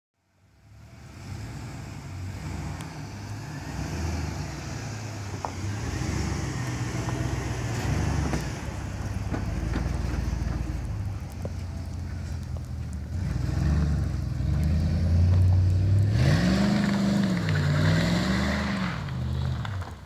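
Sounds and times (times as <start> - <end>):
truck engine driving past: 0.5 - 20.0.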